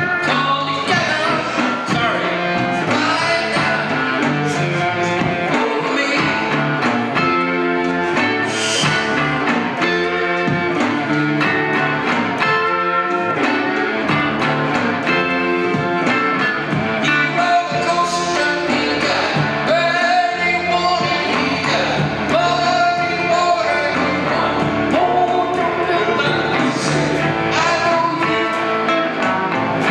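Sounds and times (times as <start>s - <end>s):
electric bass: 0.0s - 29.9s
electric guitars: 0.0s - 29.9s
steady drum beat: 0.0s - 29.9s.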